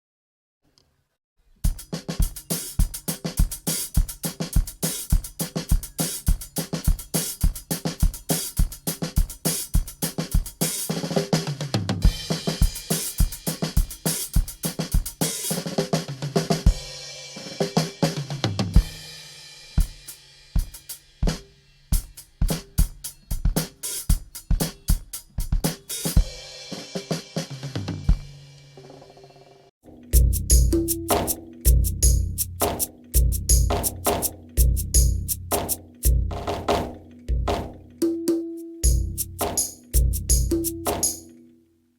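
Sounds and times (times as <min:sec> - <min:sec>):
drum kit beat: 0:01.7 - 0:28.5, 0:29.9 - 0:41.4.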